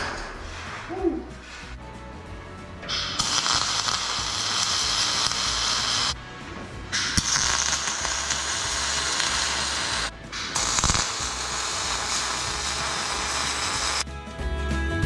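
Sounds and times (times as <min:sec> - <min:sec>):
welding arc crackling hiss: 0:00.0 - 0:02.0, 0:02.8 - 0:06.2, 0:06.8 - 0:14.1.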